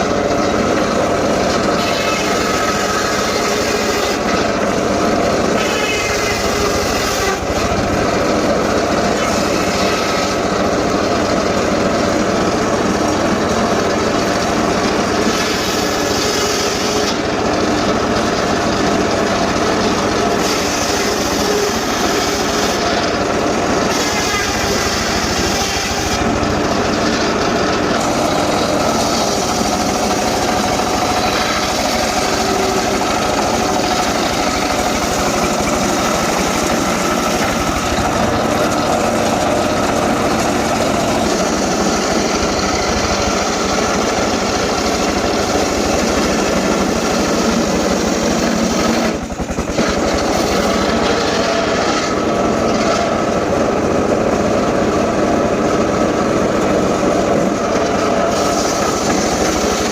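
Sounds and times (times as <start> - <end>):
engine-powered saw running: 0.0 - 59.9.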